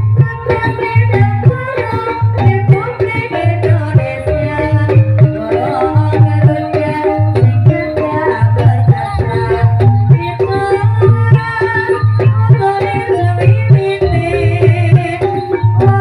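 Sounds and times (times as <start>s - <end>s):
gamelan ensemble melody: 0.0s - 16.0s.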